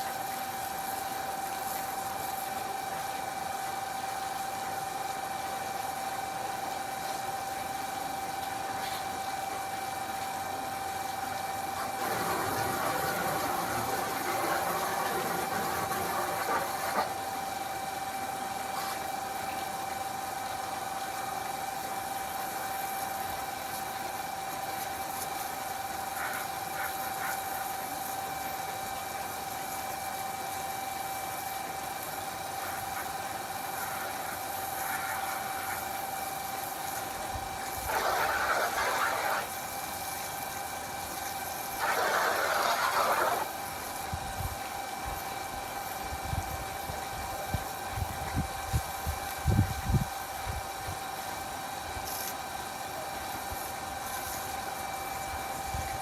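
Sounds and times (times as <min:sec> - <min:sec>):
pump hum: 0:00.0 - 0:56.0.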